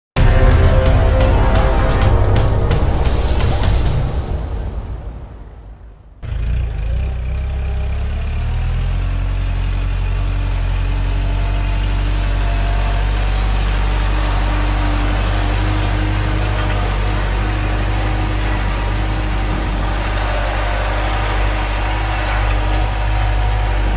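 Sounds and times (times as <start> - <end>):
engine humming: 0.1 - 23.9.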